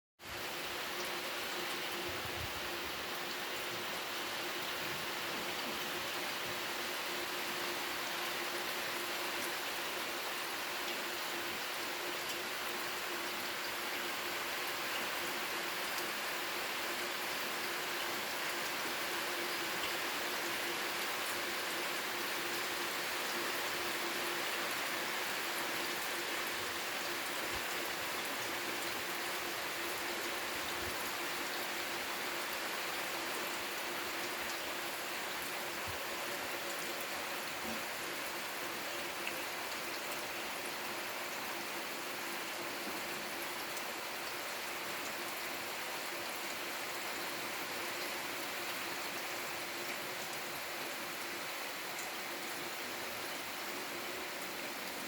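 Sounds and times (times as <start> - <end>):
steady rain hiss: 0.2 - 55.0.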